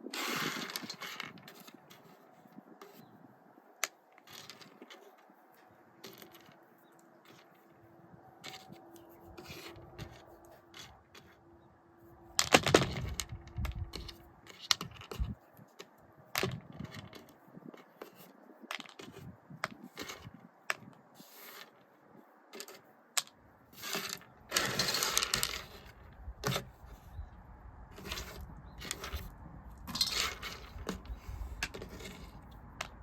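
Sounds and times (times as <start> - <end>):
dried beans clicking and rattling: 0.0 - 3.1, 3.8 - 11.4, 12.4 - 21.8, 22.5 - 26.7, 27.9 - 33.0.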